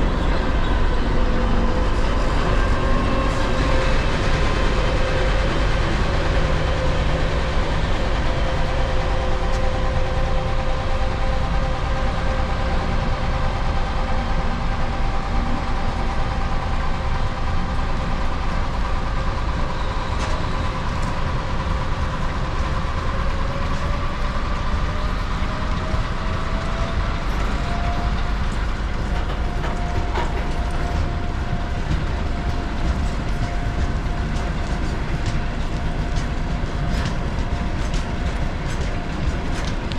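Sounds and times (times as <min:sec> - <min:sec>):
high whine: 0:00.0 - 0:39.9
train wheels rumbling on rails: 0:00.0 - 0:39.9.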